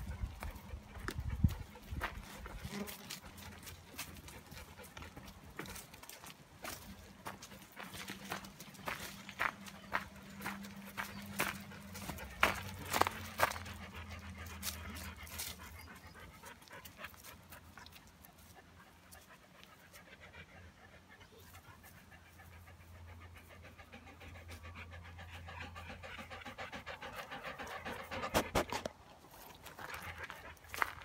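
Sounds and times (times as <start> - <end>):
dog panting: 0.0 - 31.0.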